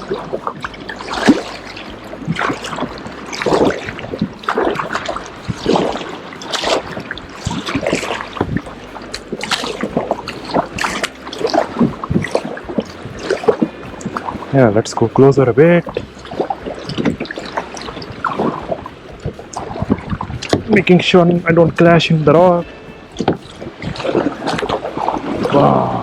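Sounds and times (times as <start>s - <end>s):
paddle splashing in water: 0.0s - 26.0s
water sloshing against hull: 0.0s - 26.0s.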